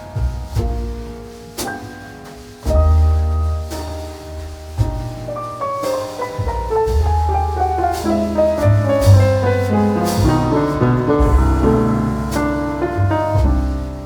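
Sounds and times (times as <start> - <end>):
piano instrumental music: 0.0 - 14.0.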